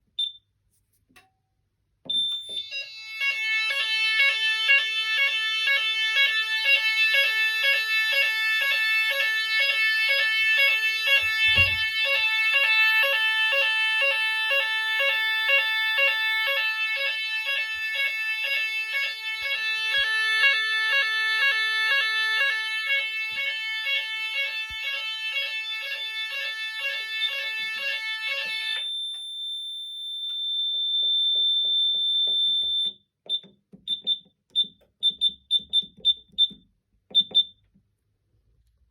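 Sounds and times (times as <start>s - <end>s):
fire alarm pulsing low tone: 2.1s - 36.6s
fire alarm steady high tone: 2.1s - 36.6s.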